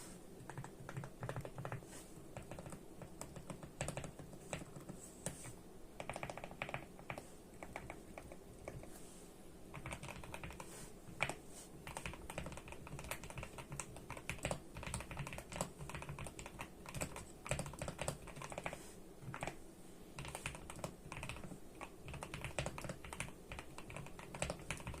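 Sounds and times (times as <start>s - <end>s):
mechanical keyboard typing: 0.4s - 5.4s, 6.0s - 8.9s, 9.7s - 19.6s, 20.2s - 25.0s.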